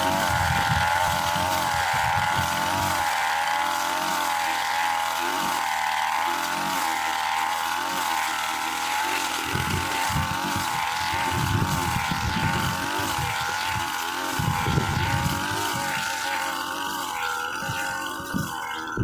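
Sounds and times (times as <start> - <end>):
brush cutter engine running: 0.0 - 19.0.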